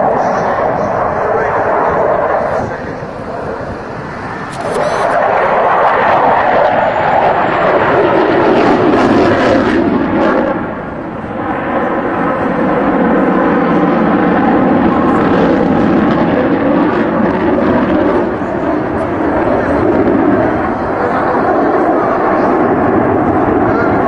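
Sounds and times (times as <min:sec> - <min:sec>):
jet engines in flight: 0:00.0 - 0:24.0.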